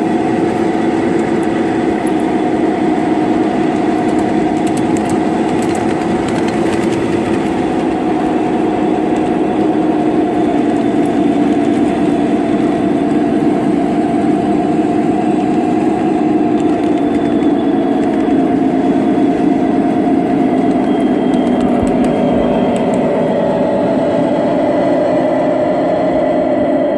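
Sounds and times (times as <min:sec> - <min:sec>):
diesel locomotive engine running: 0:00.0 - 0:26.9.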